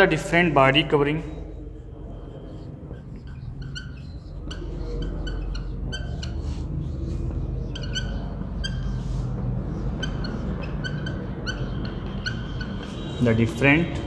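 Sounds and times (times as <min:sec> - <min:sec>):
marker squeaking on whiteboard: 0:00.0 - 0:14.0
steady low hum: 0:00.0 - 0:14.0.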